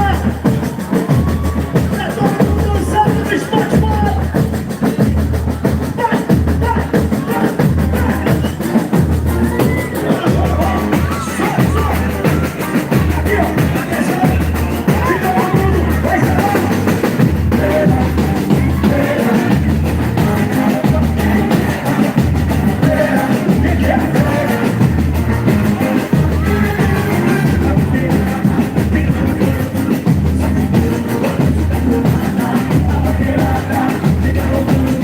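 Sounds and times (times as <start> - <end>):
deep bass drums beating: 0.0 - 35.0
percussion: 0.0 - 35.0
person singing: 5.9 - 35.0.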